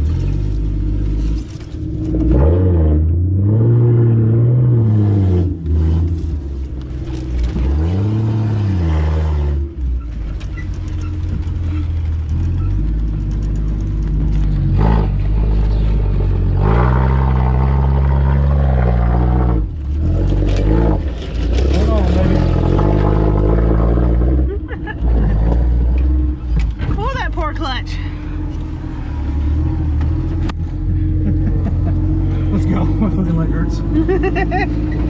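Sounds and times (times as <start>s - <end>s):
engine revving: 0.0s - 9.9s, 10.9s - 35.0s.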